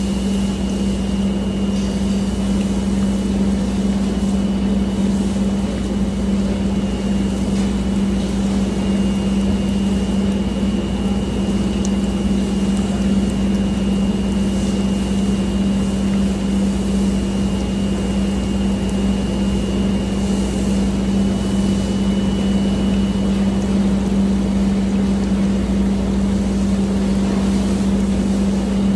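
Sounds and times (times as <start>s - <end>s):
high steady whine: 0.0s - 28.9s
machine hum with low drone: 0.0s - 28.9s.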